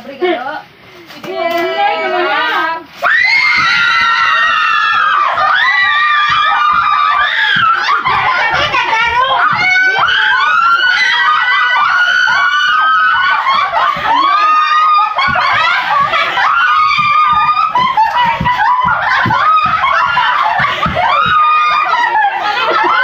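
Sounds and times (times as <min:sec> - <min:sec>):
women screaming and laughing: 0:03.0 - 0:23.0.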